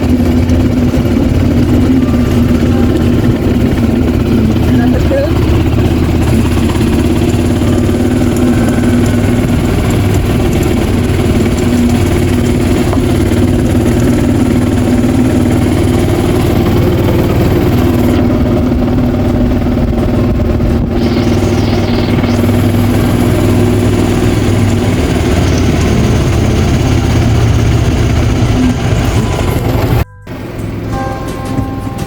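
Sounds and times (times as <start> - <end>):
car engine droning inside cabin: 0.0 - 32.0.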